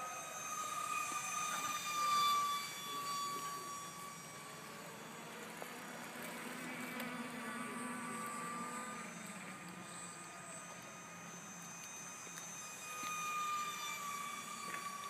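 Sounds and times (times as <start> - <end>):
small aircraft engine droning: 0.0 - 15.0.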